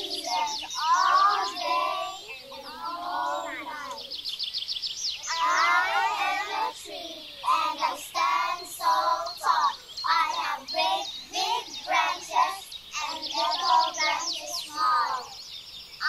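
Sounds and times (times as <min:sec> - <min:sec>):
young children singing: 0:00.0 - 0:04.2, 0:05.2 - 0:15.4.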